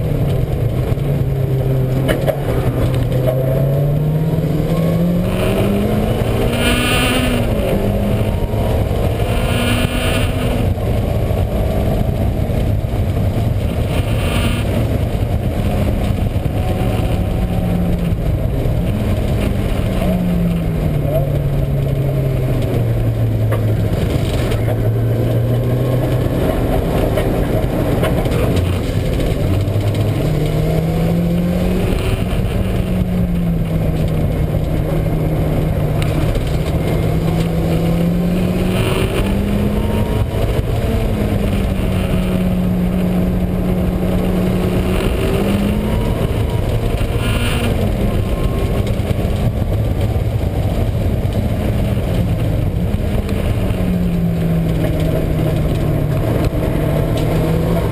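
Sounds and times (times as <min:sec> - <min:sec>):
car engine revving: 0:00.0 - 0:57.9
low rumble and drone: 0:00.0 - 0:57.9.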